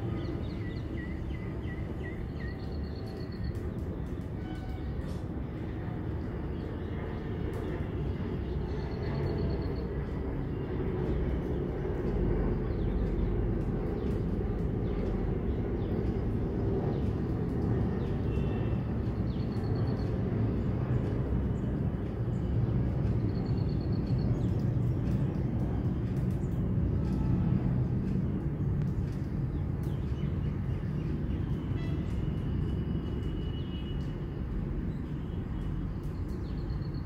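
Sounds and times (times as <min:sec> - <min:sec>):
steady low outdoor rumble: 0:00.0 - 0:37.0.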